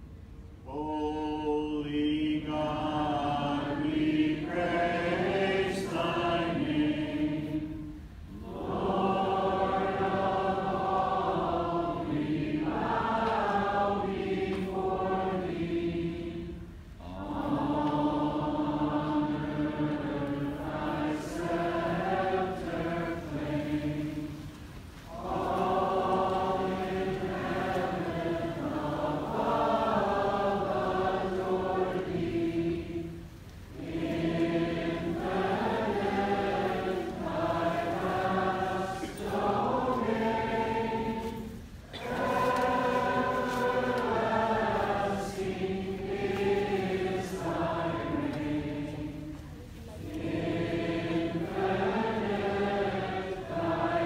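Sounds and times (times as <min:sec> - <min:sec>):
congregation singing a hymn: 0:00.7 - 0:54.0.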